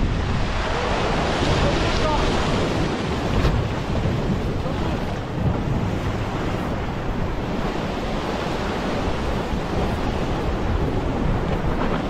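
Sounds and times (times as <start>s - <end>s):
surf washing over rocks: 0.0s - 12.0s
wind buffeting the microphone: 0.0s - 12.0s.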